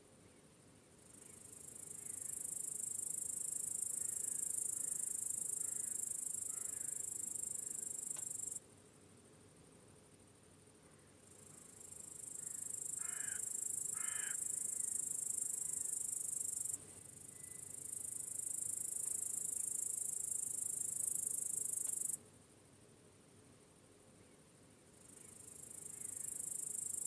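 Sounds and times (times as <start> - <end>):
crickets chirping: 0.6 - 27.0.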